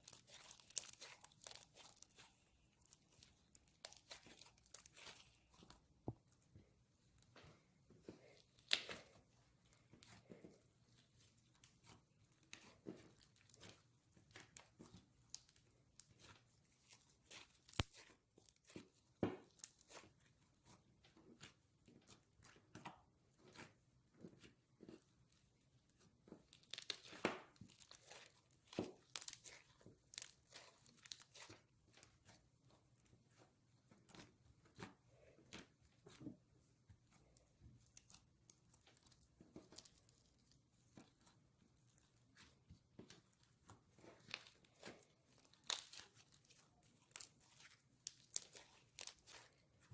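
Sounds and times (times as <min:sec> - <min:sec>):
slime squishing with wet pops: 0:00.0 - 0:49.9.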